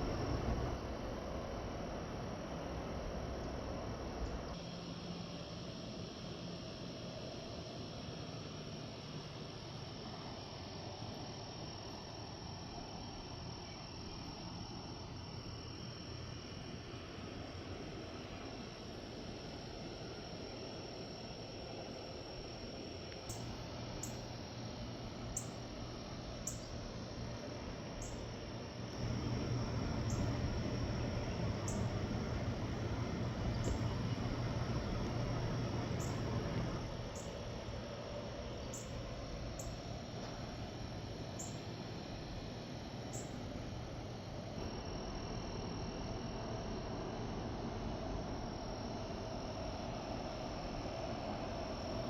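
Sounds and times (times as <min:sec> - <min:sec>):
outdoor background noise: 0:00.0 - 0:52.0
cricket chirping: 0:02.3 - 0:52.0.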